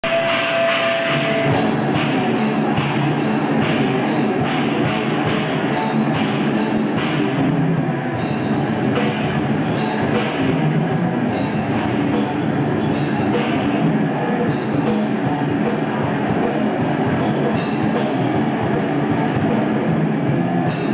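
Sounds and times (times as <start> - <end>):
distorted electric guitars: 0.0 - 20.9
drum kit: 0.0 - 20.9.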